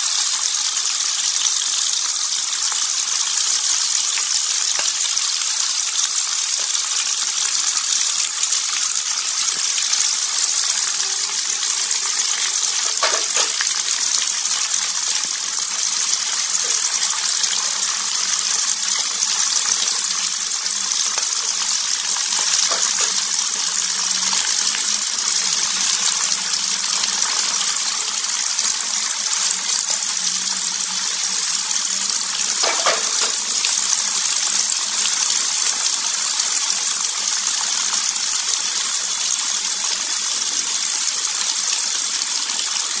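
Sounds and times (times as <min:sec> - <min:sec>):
fish sizzling in hot oil: 0:00.0 - 0:43.0.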